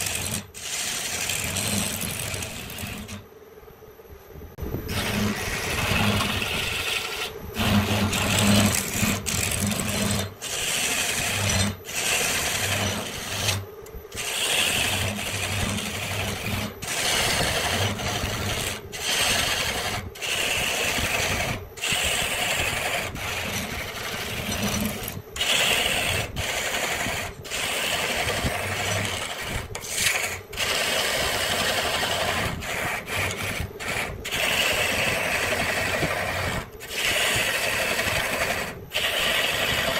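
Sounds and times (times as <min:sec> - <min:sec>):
tool scraping wood: 0:00.0 - 0:03.3, 0:04.6 - 0:39.9
steady hum: 0:00.0 - 0:39.9.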